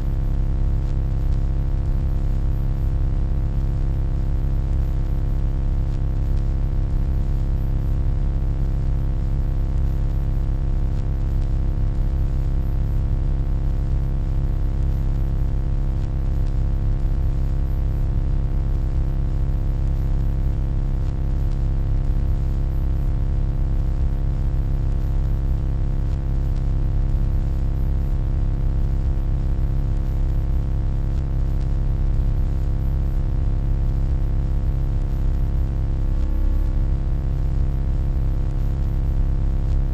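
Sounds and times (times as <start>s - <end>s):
electronic hum: 0.0s - 39.9s.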